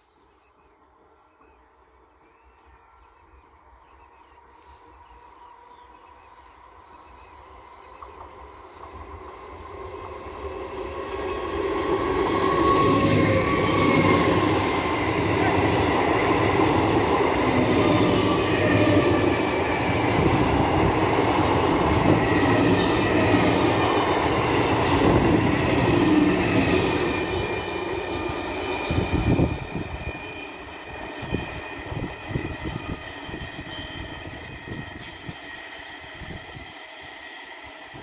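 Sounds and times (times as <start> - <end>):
train wheels rumbling on rails: 4.6 - 38.0.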